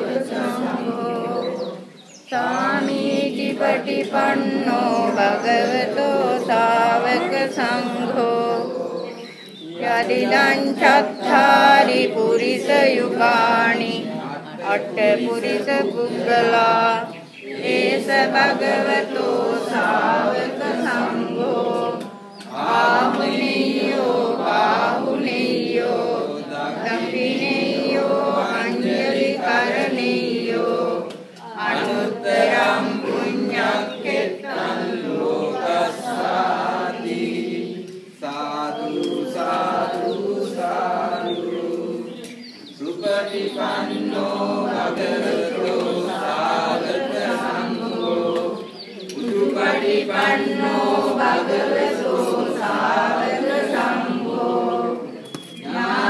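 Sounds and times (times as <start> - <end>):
group of voices chanting: 0.0 - 56.0.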